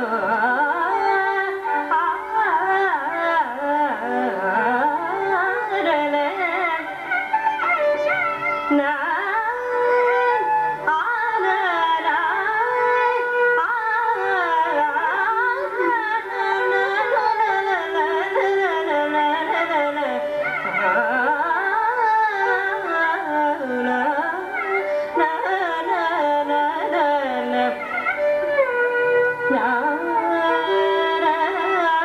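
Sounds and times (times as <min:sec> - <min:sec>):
woman singing: 0:00.0 - 0:06.9, 0:08.6 - 0:32.0
violin accompaniment: 0:00.0 - 0:32.0.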